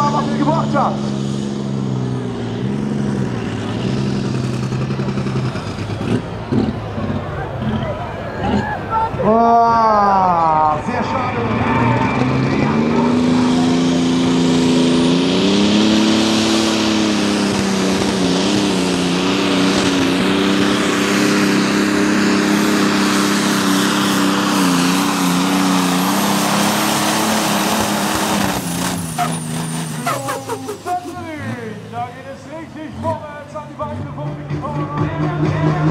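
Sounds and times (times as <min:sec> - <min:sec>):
diesel engine at full throttle: 0:00.0 - 0:35.9.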